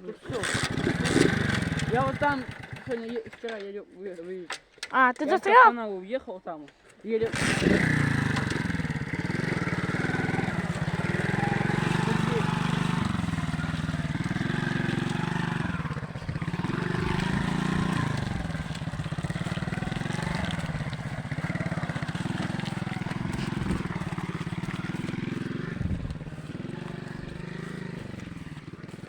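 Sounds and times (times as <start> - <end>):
moped engine revving: 0.0 - 3.6, 7.2 - 29.0.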